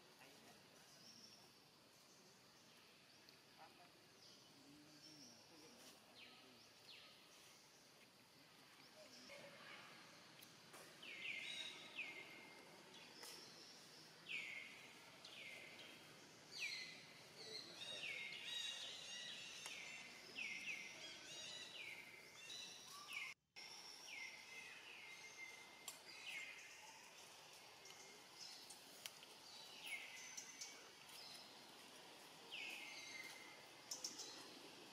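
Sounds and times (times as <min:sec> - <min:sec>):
faint outdoor background: 0:00.0 - 0:34.9.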